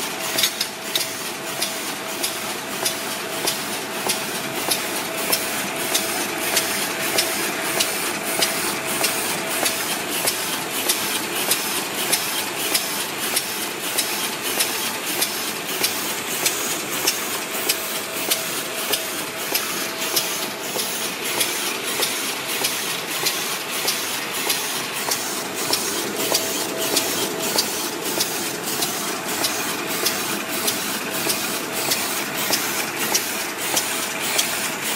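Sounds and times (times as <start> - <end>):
machine clattering: 0.3 - 34.9
sharp machine click: 0.4 - 34.6.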